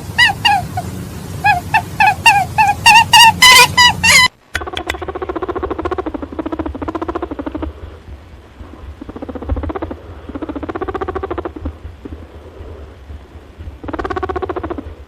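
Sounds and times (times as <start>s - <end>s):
rabbit rapid pulsed calls: 0.0s - 15.0s.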